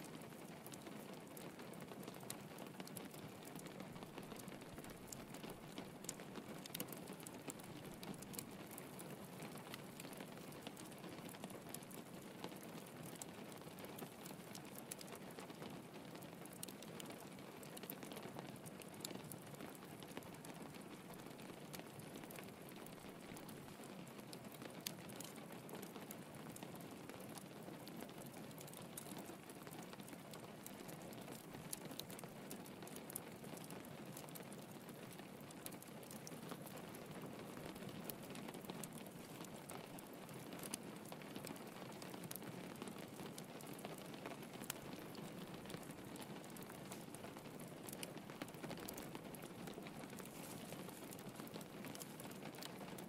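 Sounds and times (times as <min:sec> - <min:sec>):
rain pattering on a window: 0:00.0 - 0:53.0
wood fire crackling: 0:00.1 - 0:53.0.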